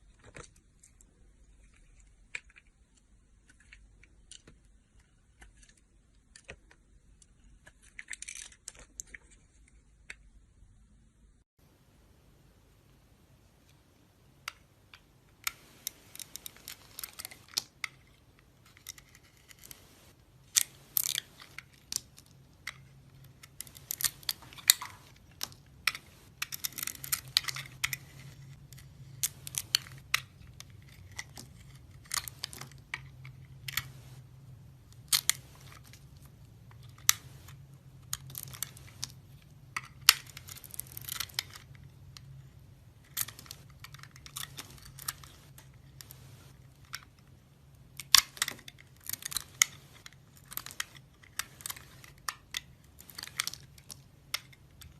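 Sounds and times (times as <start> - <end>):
faint low hum: 8.6 - 54.9.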